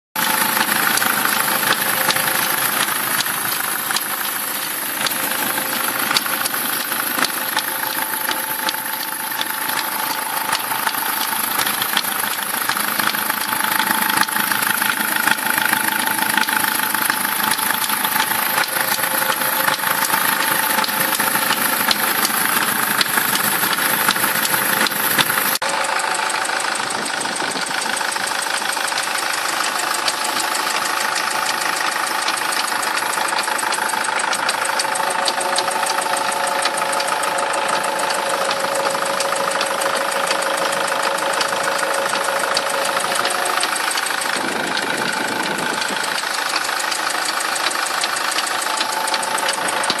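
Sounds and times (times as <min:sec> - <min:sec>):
car engine running: 0:00.1 - 0:50.0
rapid ticking knock: 0:00.2 - 0:50.0.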